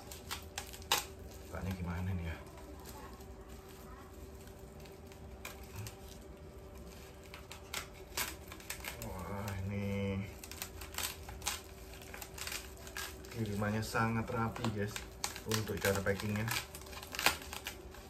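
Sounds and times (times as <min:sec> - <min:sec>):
paper crinkling: 0:00.0 - 0:18.0.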